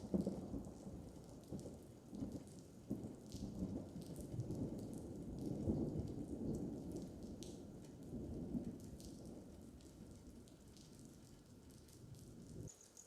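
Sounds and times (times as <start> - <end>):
thunder rumbling: 0.0 - 12.7
rain falling: 0.0 - 13.0.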